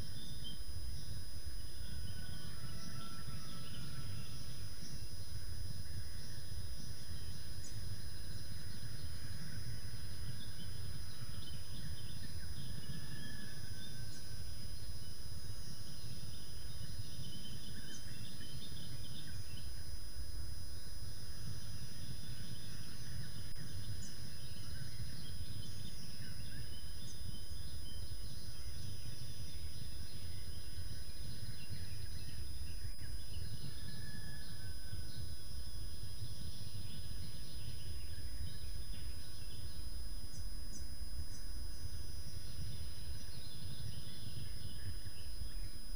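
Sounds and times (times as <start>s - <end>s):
faint bird chirps: 0.0s - 45.9s.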